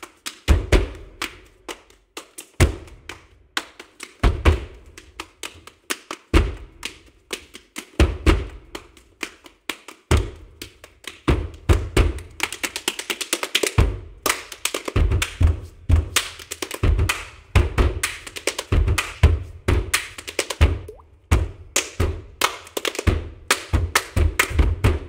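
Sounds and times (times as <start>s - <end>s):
hand claps: 0.0s - 25.0s.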